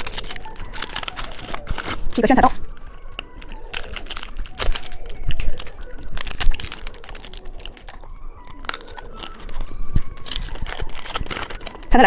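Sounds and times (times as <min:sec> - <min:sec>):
candy wrapper crinkling: 0:00.0 - 0:12.0.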